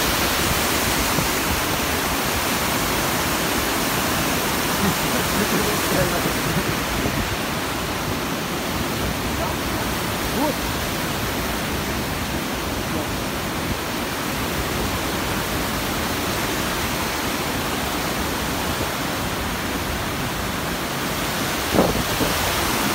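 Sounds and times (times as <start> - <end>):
water rushing over rocks: 0.0 - 22.9.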